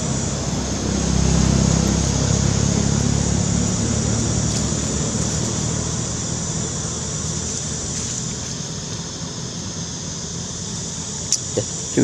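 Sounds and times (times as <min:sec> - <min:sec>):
high-pitched hiss: 0:00.0 - 0:12.0
low engine hum: 0:00.0 - 0:12.0.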